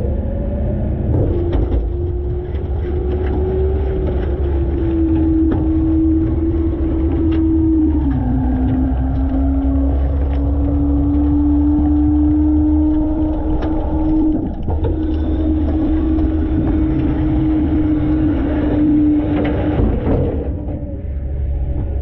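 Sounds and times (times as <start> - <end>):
garbage truck running: 0.0 - 22.0
steady whine: 0.0 - 22.0.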